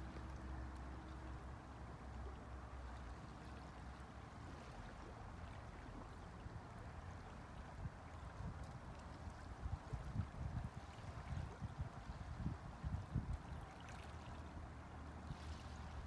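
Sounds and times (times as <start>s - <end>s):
water lapping at pebble shore: 0.0s - 16.0s.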